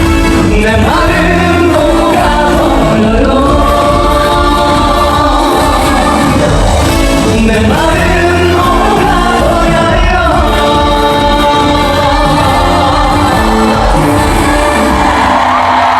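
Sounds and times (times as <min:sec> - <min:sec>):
amplified backing track: 0:00.0 - 0:15.9
woman singing: 0:00.5 - 0:15.4.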